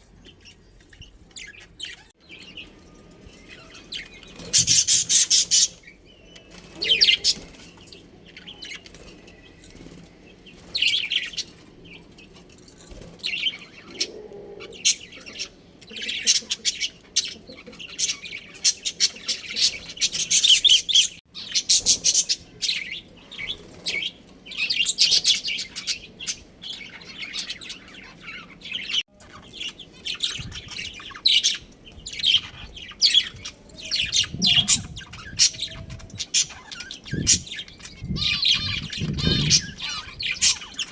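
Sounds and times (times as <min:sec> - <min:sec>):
budgerigars chirping: 0:03.5 - 0:09.9, 0:13.3 - 0:40.9.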